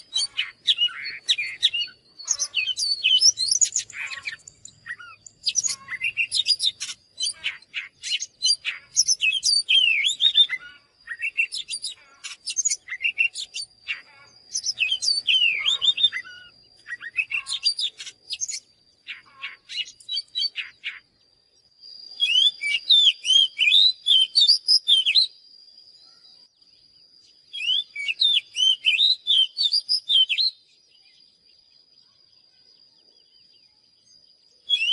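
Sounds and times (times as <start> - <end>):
bird singing whistles: 0.0 - 21.1, 21.9 - 25.4, 27.2 - 31.2, 34.6 - 34.9
faint steady high tone: 0.0 - 34.9.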